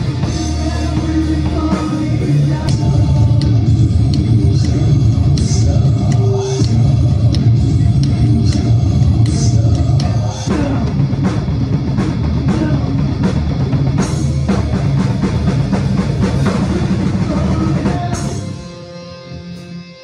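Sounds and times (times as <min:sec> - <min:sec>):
drum kit played hard: 0:00.0 - 0:19.1
rock music: 0:00.0 - 0:20.0.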